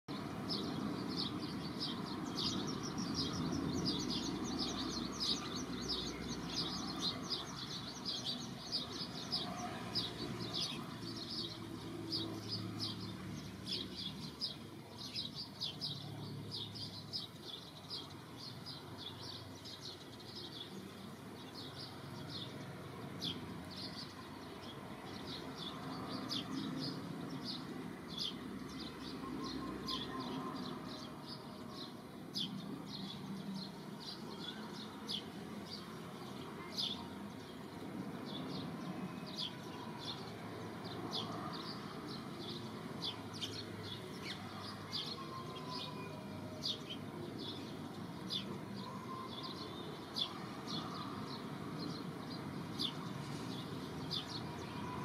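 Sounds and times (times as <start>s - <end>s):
birds chirping: 0.1s - 55.0s.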